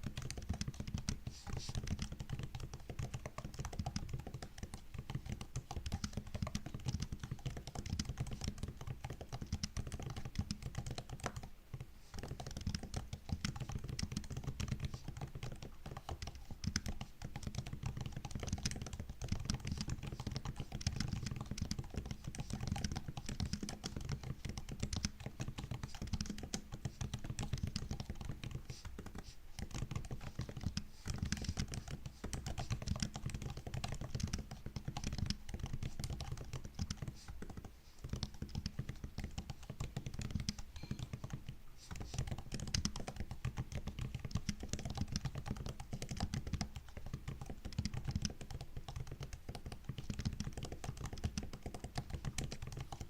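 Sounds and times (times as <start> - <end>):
laptop keyboard typing: 0.0 - 53.0.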